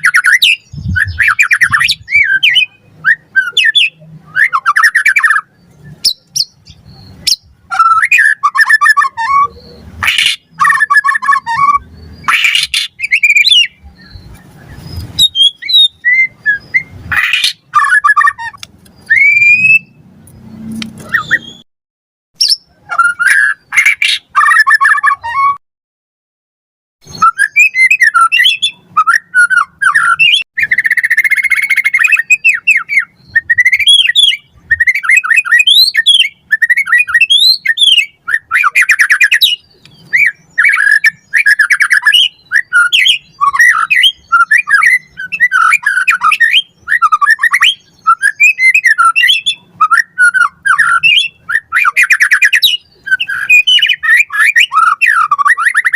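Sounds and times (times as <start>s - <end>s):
songbird singing whistles and trills: 0.0s - 21.6s, 22.4s - 25.6s, 27.0s - 55.9s.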